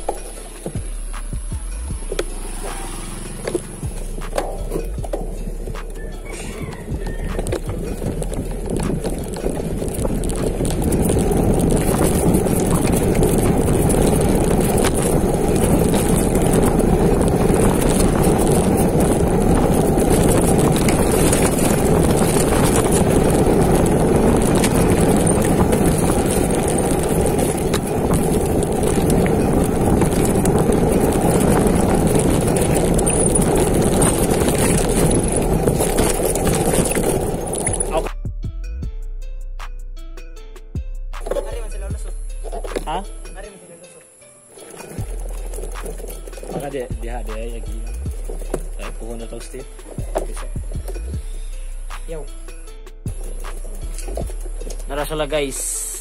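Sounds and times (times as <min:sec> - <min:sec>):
tyres rushing on dirt: 0:00.0 - 0:38.2, 0:41.2 - 0:43.6, 0:44.4 - 0:51.3, 0:53.1 - 0:56.0
bike clattering over bumps: 0:02.1 - 0:38.1, 0:41.2 - 0:43.4, 0:44.5 - 0:51.3, 0:53.1 - 0:56.0.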